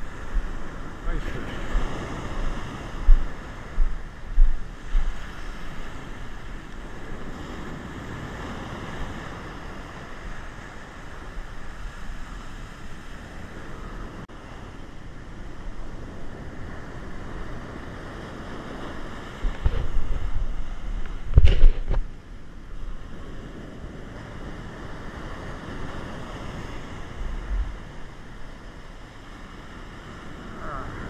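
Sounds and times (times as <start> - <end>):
surf washing over sand: 0.0 - 31.0
wind rumbling on microphone: 0.0 - 31.0.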